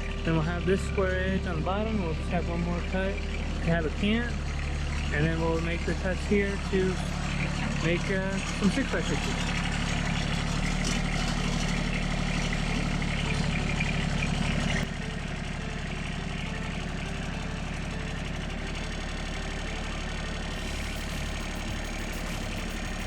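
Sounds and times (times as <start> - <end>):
sawmill engine running: 0.0 - 23.0.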